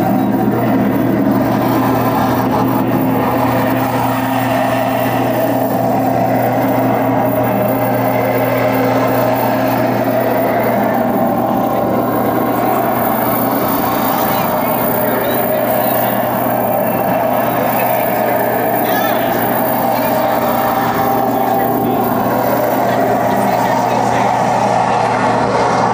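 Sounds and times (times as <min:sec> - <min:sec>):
distorted noise drone: 0:00.0 - 0:25.9
held mid tone: 0:00.0 - 0:25.9
steady low hum: 0:00.0 - 0:25.9.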